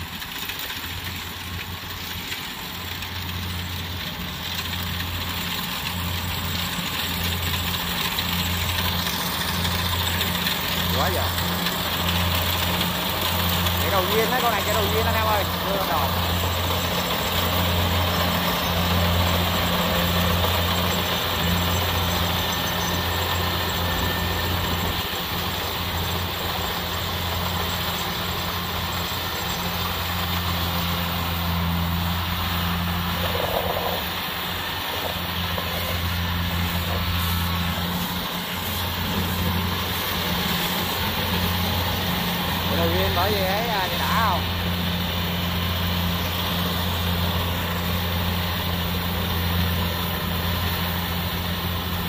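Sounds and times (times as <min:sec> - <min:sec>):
mechanical noise: 0:00.0 - 0:43.3
combine harvester engine droning: 0:00.0 - 0:52.0.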